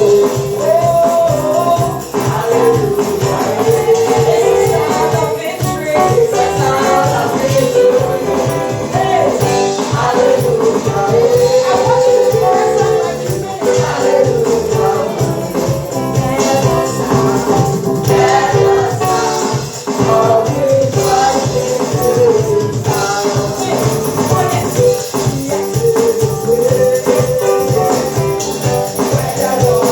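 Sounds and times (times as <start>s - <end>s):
band with steady beat: 0.0s - 29.9s
voices singing: 0.0s - 29.9s.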